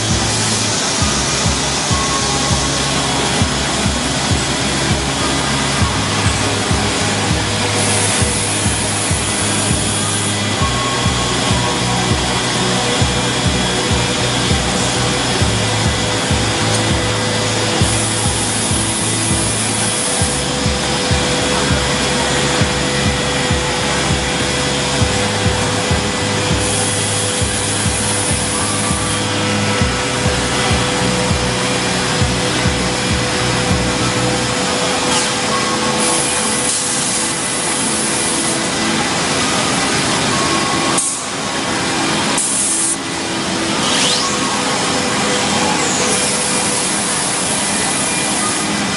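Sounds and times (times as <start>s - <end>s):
wood router cutting wood: 0.0s - 48.9s.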